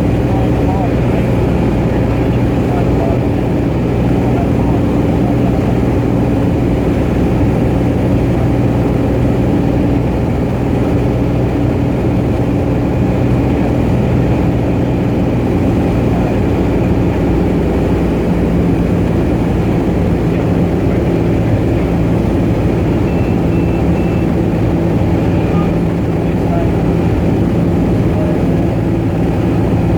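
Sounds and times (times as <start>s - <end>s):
propeller plane engine droning: 0.0s - 29.9s.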